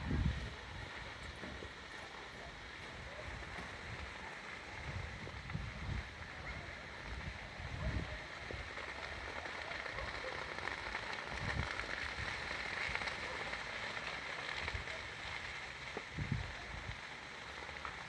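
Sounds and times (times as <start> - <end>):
burning brush crackling: 0.0 - 18.0.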